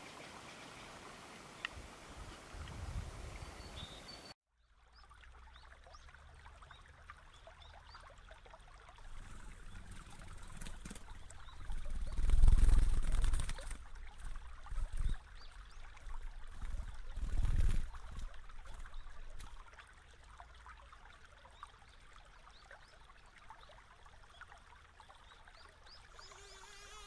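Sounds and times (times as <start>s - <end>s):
water trickling: 0.0s - 27.0s.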